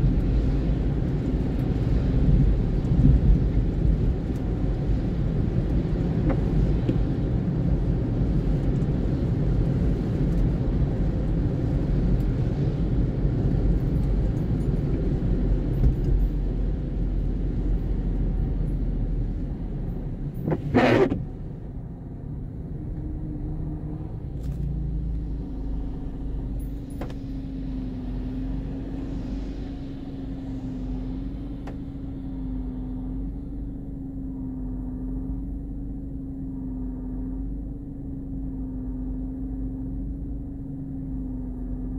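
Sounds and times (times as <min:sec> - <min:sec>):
tyres on wet road: 0:00.0 - 0:33.7
car engine idle hum: 0:00.0 - 0:41.9.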